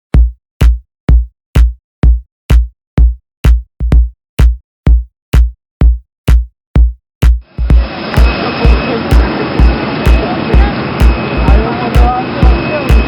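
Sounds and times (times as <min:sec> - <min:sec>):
electronic kick drum beat: 0:00.0 - 0:13.0.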